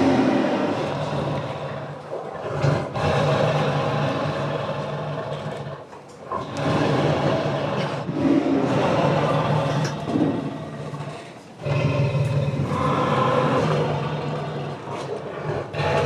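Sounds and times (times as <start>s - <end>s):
rough growling roars: 0.0s - 16.0s.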